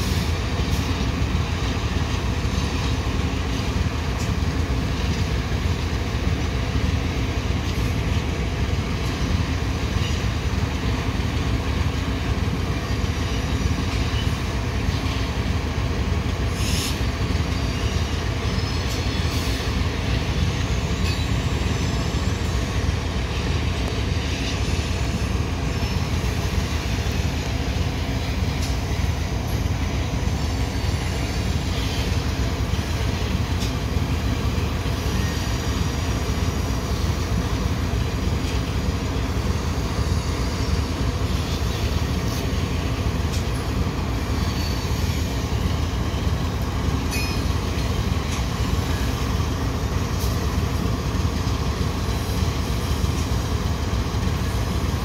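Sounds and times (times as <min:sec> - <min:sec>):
train rolling with low rumble: 0:00.0 - 0:55.0
train wheel squeal: 0:00.0 - 0:55.0.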